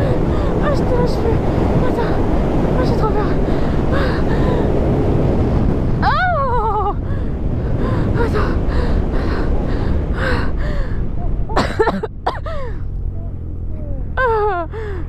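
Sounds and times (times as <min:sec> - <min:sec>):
motorcycle rumble: 0:00.0 - 0:15.0
wind: 0:00.0 - 0:15.0.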